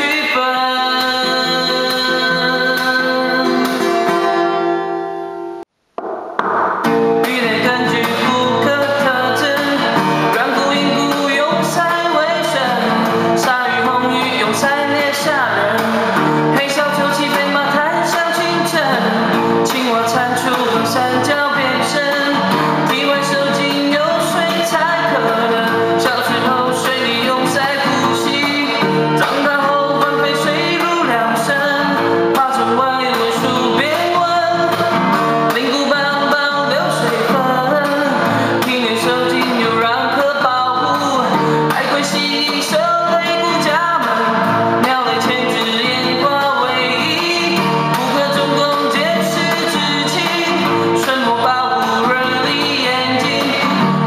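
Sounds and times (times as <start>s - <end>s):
man singing pop song: 0.0s - 4.6s, 6.9s - 54.0s.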